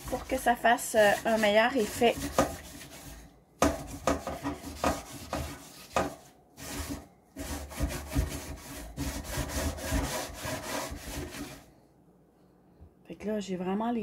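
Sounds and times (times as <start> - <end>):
sponge scrubbing wire oven rack: 0.0 - 11.7.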